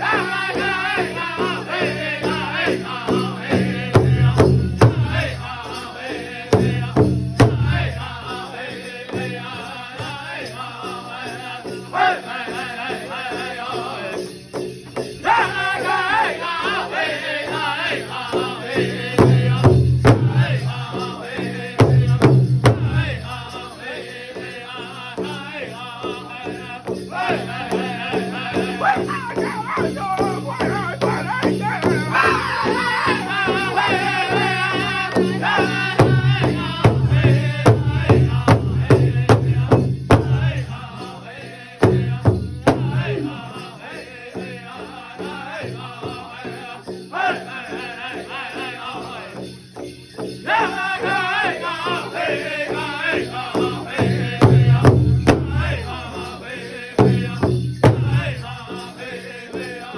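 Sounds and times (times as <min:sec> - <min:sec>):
group singing in chorus: 0:00.0 - 0:59.9.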